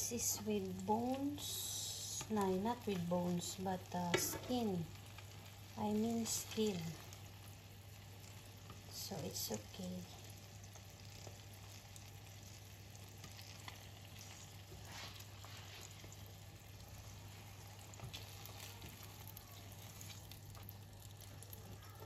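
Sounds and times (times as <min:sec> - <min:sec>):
fish sizzling in a frying pan: 0:00.0 - 0:22.0
steady low hum: 0:00.0 - 0:22.0.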